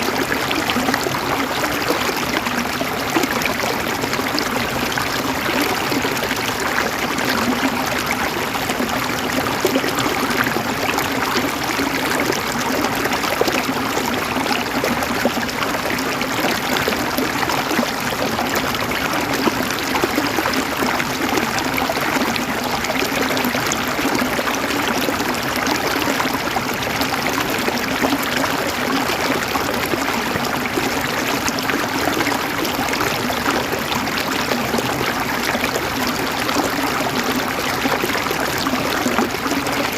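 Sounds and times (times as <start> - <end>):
river water gurgling: 0.0 - 39.9.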